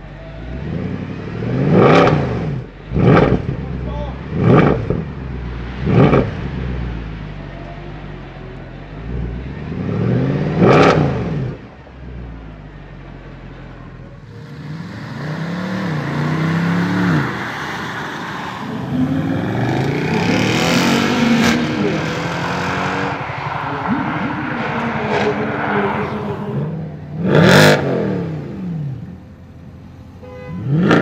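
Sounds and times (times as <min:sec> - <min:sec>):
car exhaust revving: 0:00.0 - 0:07.4, 0:08.9 - 0:12.6, 0:14.1 - 0:31.0.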